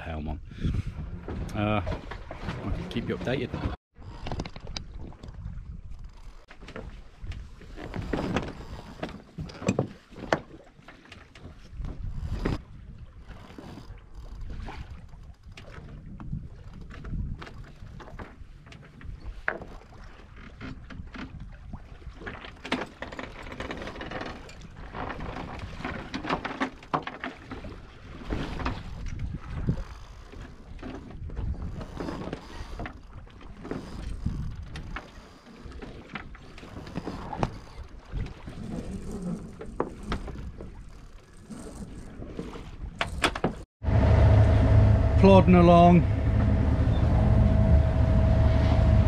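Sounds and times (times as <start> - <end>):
sea noise: 0.0 - 16.8, 21.5 - 49.0
wind: 0.0 - 49.0
boat knocking and rattling: 0.8 - 49.0.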